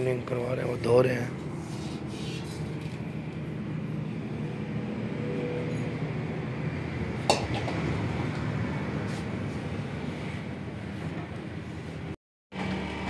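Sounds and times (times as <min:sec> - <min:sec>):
workshop background rumble: 0:00.0 - 0:13.0.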